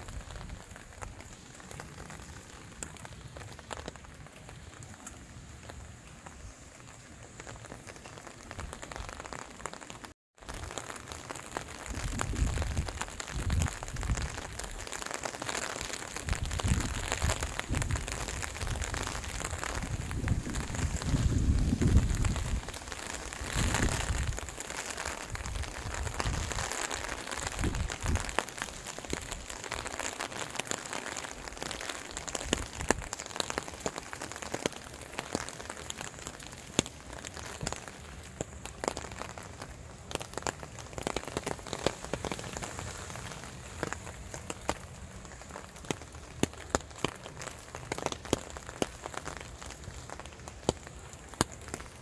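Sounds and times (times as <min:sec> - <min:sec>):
rain falling: 0:00.0 - 0:52.0
sharp water drips: 0:00.0 - 0:52.0.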